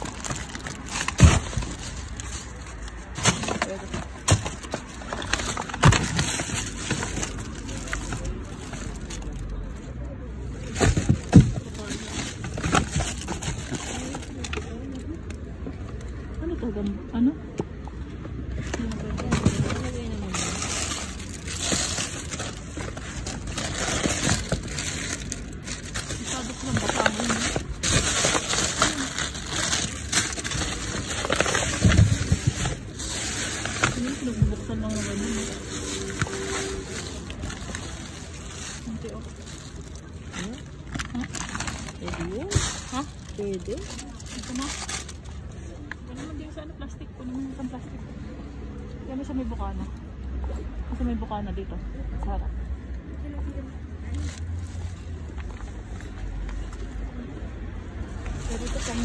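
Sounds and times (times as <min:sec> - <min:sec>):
plastic bags rustling and crinkling: 0:00.0 - 0:16.3, 0:18.5 - 0:47.6, 0:54.0 - 0:59.0.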